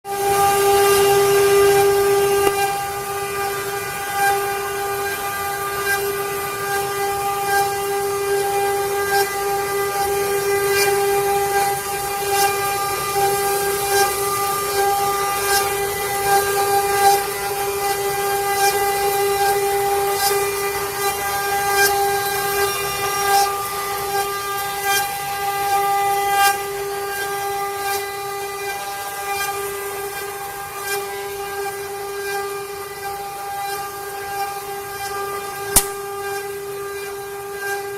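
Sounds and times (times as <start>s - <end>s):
router spindles whining: 0.1s - 37.9s.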